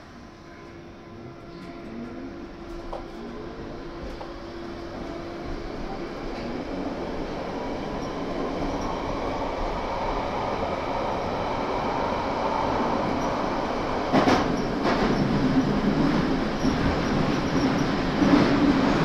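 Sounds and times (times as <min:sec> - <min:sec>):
train wheels on rail: 0:01.5 - 0:19.0.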